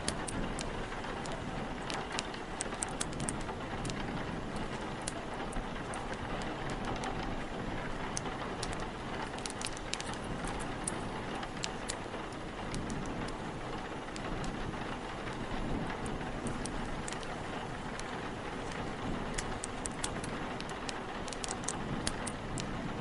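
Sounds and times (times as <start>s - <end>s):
blustery wind: 0.0s - 23.0s
steady rain: 0.0s - 23.0s
wood fire crackling and popping: 0.0s - 23.0s.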